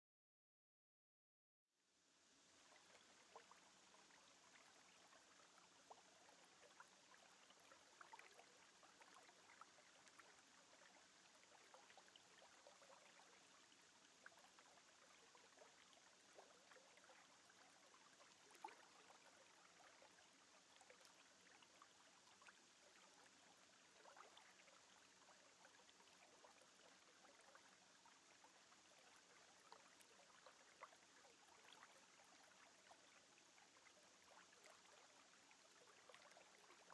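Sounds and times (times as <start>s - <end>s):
faint steady hiss: 1.8s - 36.9s.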